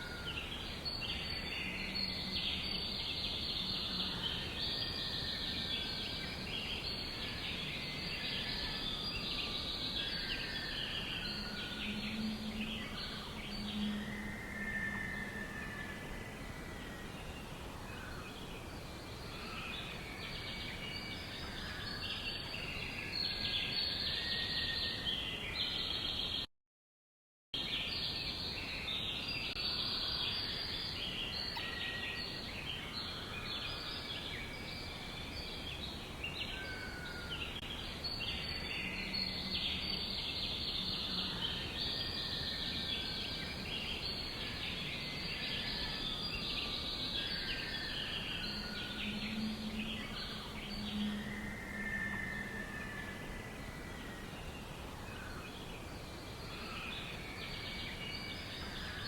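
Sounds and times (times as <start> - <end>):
songbirds chirping in chorus: 0.0 - 26.5, 27.6 - 59.0.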